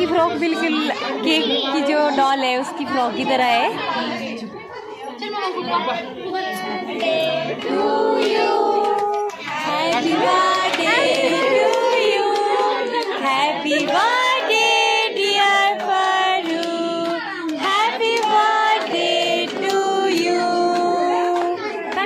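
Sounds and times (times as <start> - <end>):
people singing birthday song: 0.0 - 22.0.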